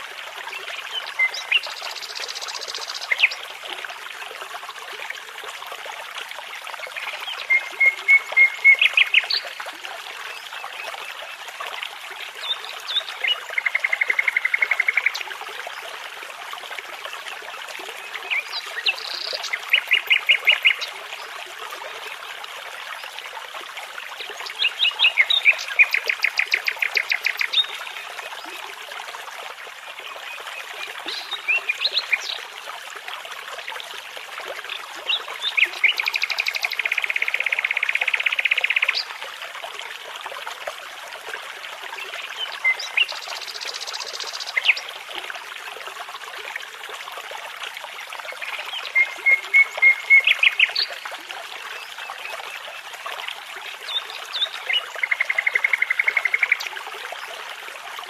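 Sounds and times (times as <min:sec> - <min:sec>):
babbling brook: 0:00.0 - 0:58.0.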